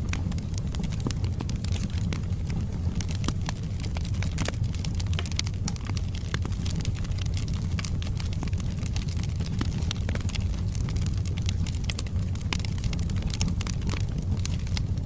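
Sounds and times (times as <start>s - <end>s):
burning wood crackling: 0.0s - 15.0s
fire rumbling: 0.0s - 15.0s.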